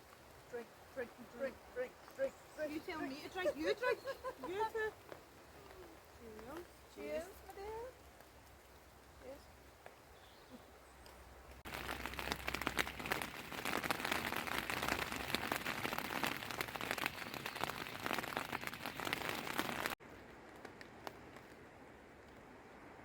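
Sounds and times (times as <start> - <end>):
heavy rain pattering: 0.0 - 10.2, 11.3 - 22.9
faint rain hiss: 0.0 - 23.0.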